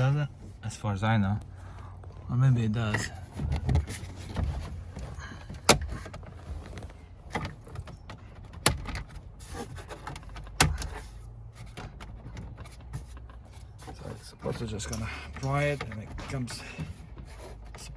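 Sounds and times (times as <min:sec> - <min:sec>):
light knocks and rustling: 0:02.1 - 0:17.9.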